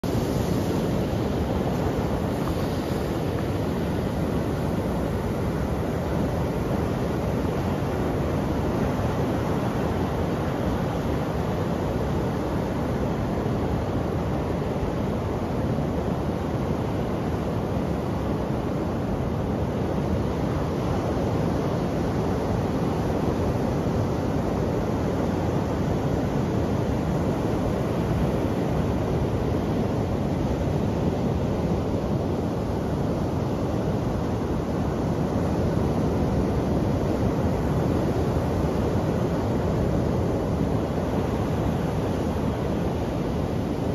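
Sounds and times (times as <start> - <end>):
surf washing over rocky beach: 0.0 - 43.9.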